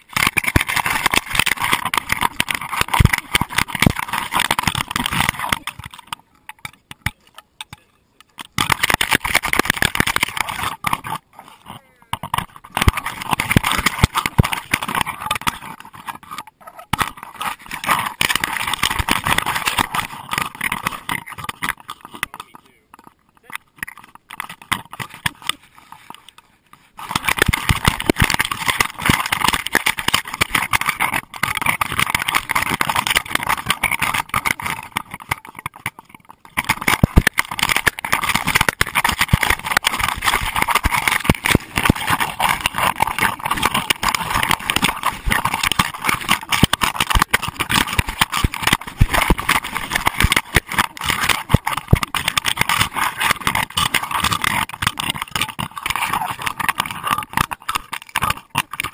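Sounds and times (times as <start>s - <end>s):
camera housing rubbing and rattling: 0.0s - 58.9s.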